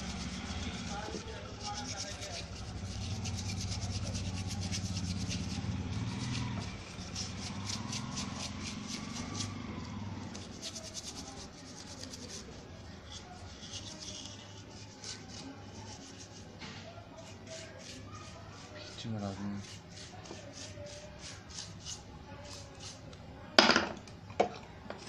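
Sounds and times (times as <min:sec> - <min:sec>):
quick scraping strokes: 0:00.0 - 0:09.6, 0:10.2 - 0:23.0.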